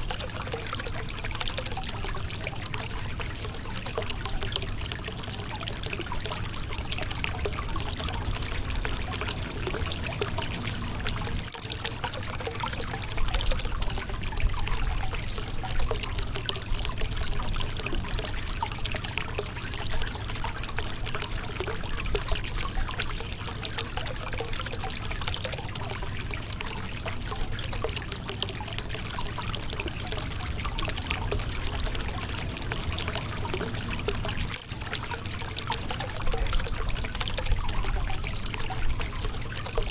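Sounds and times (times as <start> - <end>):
river water trickling over rocks: 0.0 - 39.9.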